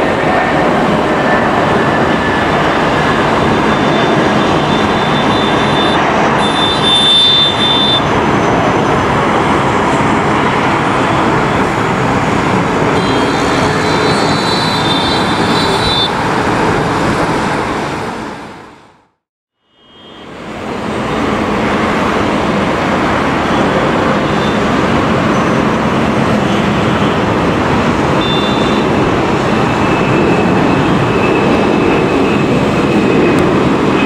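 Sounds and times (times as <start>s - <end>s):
jet engines at takeoff power: 0.0s - 19.2s, 20.3s - 34.0s.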